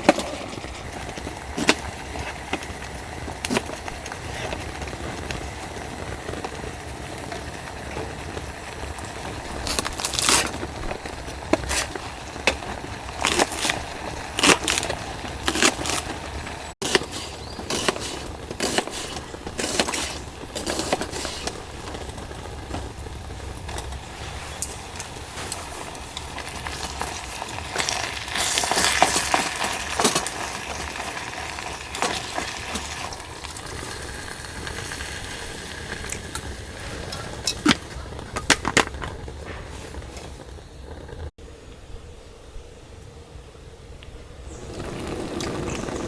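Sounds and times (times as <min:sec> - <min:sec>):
sizzling hiss: 0:00.0 - 0:38.2, 0:44.4 - 0:46.0.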